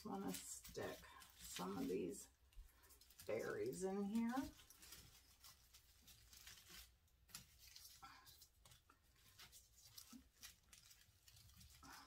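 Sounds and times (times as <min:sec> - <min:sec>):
faint rustling and clicking: 0:00.0 - 0:12.0.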